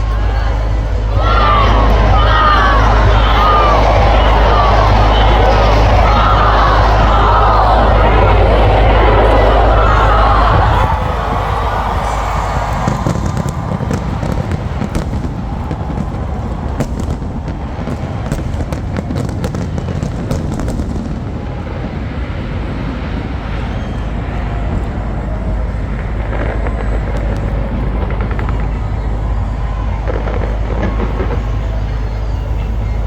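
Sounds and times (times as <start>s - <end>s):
deep rumble: 0.0s - 33.0s
fireworks cracks and bangs: 0.0s - 33.0s.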